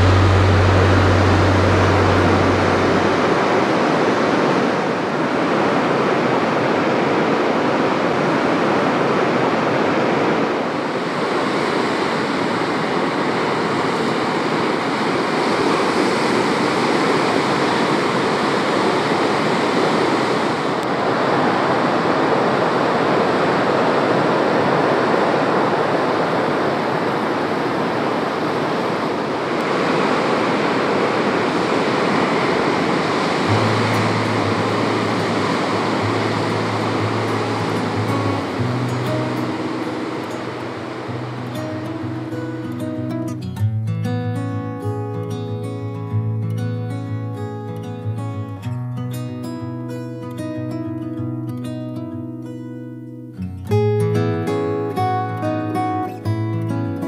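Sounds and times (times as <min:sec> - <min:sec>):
ocean waves breaking: 0:00.0 - 0:43.6, 0:53.5 - 0:57.0.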